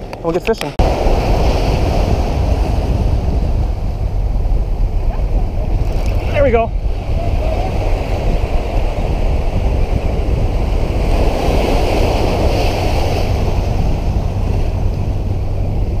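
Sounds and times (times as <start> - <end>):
ocean surf washing over rocks: 0.0 - 16.0
wind rumbling on microphone: 0.0 - 16.0.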